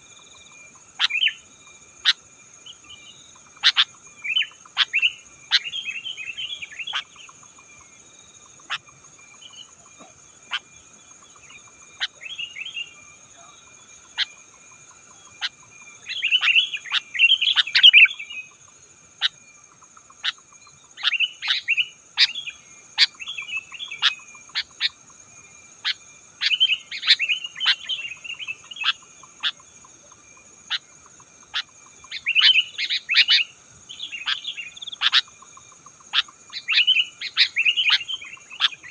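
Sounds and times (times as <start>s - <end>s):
bird chirping song: 0.0s - 38.9s
high-pitched insect-like hum: 0.0s - 38.9s.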